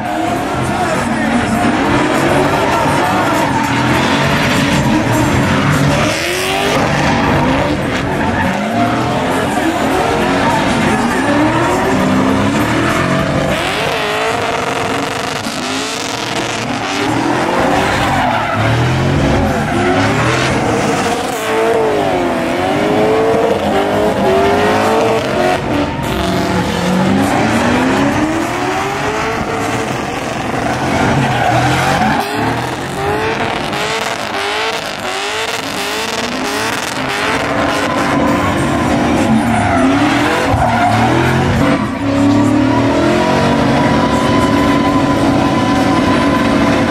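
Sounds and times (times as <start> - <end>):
car engines revving hard: 0.0 - 46.9
tires squealing: 0.0 - 46.9.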